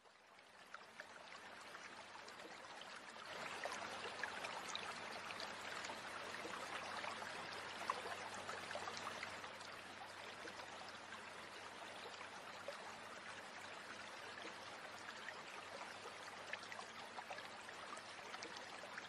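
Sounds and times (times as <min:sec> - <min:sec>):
stream flowing: 0:00.0 - 0:19.0.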